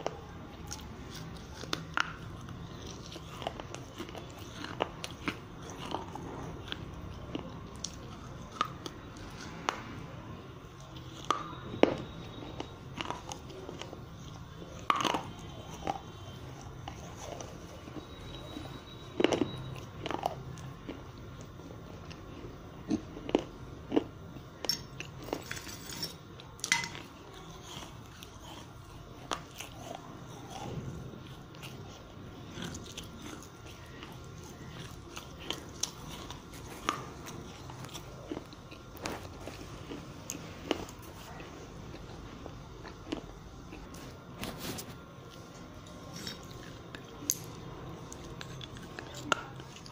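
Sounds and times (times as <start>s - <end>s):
clay pieces crunching in mouth: 0.0s - 9.9s, 10.8s - 49.9s
low background hum: 0.0s - 49.9s.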